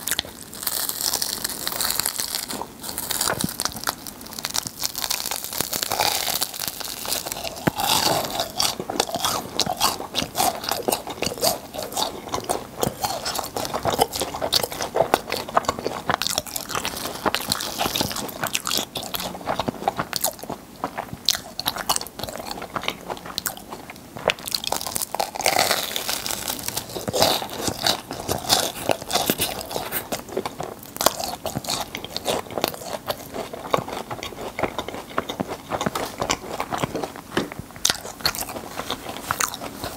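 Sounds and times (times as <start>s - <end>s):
crunching of fried pastry: 0.0s - 39.9s
wet chewing: 0.0s - 39.9s.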